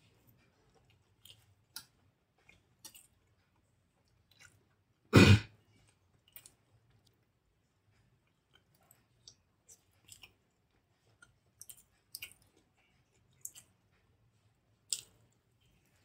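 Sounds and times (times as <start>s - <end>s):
chewing soft food: 0.0s - 16.0s.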